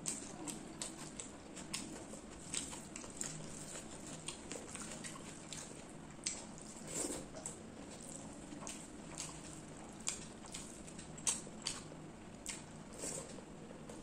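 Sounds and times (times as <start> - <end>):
wet chewing and lip smacks: 0.0 - 12.7.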